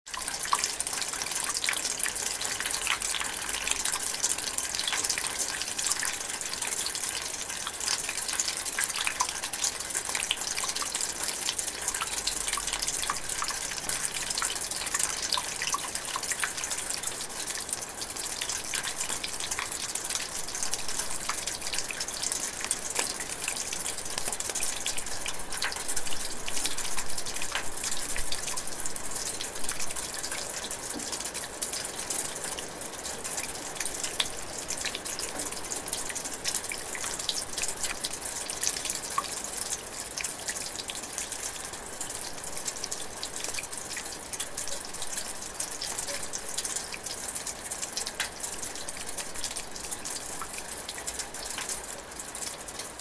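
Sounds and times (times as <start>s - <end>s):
light rain drizzling: 0.1s - 53.0s
small drips and patters: 0.1s - 53.0s.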